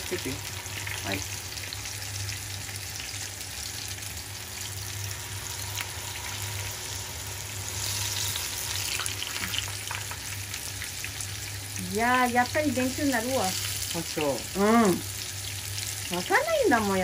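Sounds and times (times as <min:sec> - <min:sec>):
tempura deep-frying in oil: 0:00.0 - 0:17.0.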